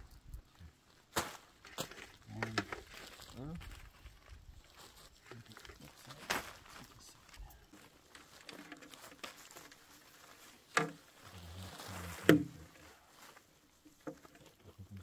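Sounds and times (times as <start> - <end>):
net rustling over plastic tarp: 1.1 - 13.8.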